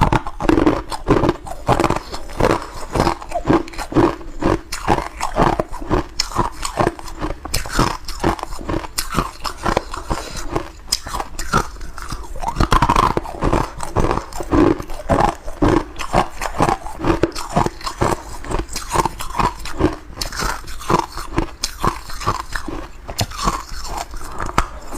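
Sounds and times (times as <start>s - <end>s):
ice cubes being chewed: 0.0s - 24.9s.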